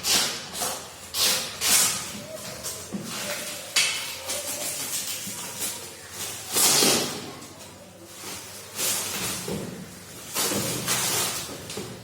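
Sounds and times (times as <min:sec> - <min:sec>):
plastic and cardboard rustling: 0:00.0 - 0:12.0.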